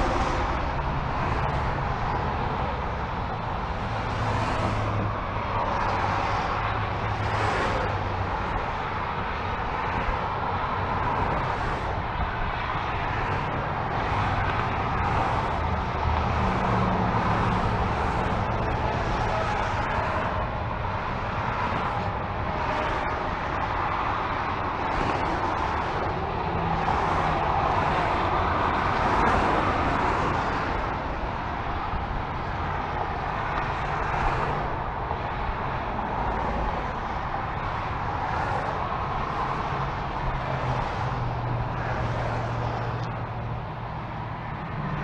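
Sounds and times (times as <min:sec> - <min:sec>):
freeway traffic passing: 0:00.0 - 0:45.0.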